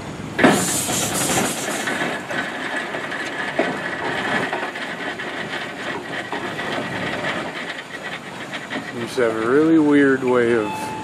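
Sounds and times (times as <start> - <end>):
steam engine hissing: 0.4 - 11.0.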